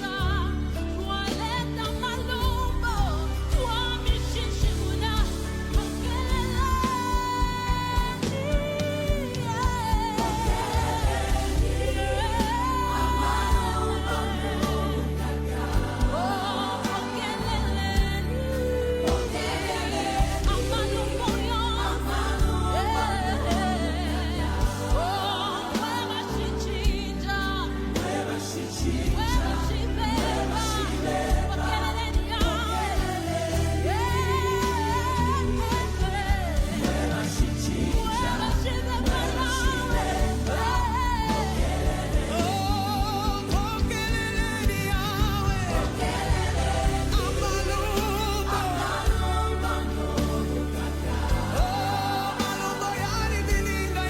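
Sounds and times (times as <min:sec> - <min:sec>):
heavy bass: 0:00.0 - 0:54.0
singers with vibrato: 0:00.0 - 0:54.0.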